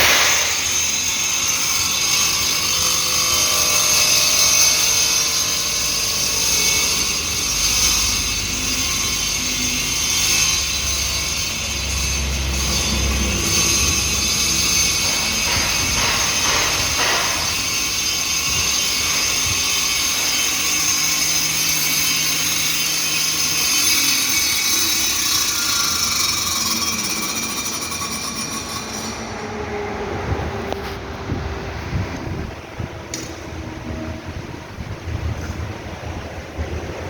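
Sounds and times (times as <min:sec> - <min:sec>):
stone-cutting machine whining: 0:00.0 - 0:33.4.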